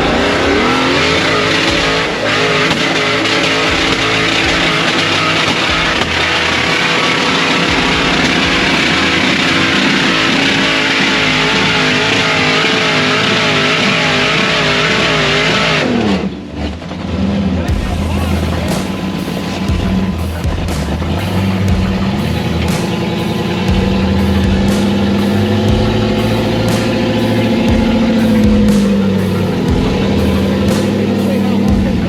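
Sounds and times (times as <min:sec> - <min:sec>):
engine revving at high revs: 0:00.0 - 0:32.0.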